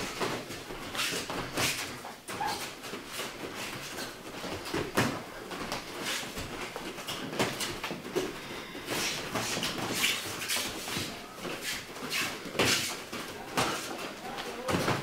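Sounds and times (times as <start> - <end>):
feet shuffling on a mat: 0.0 - 15.0.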